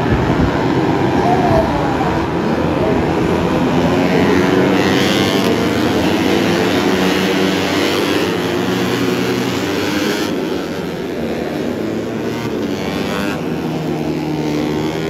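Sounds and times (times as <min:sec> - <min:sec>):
racing motorcycles running hard: 0:00.0 - 0:15.0.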